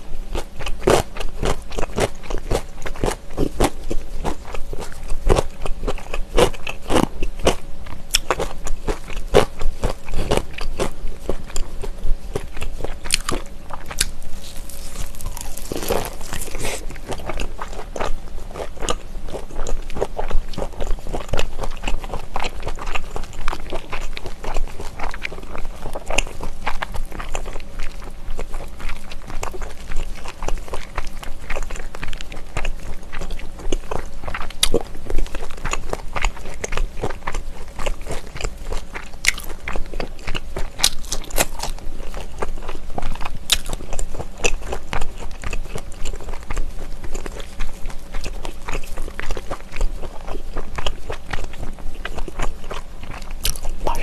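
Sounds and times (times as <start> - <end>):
close chewing with wet clicks: 0.3 - 54.0.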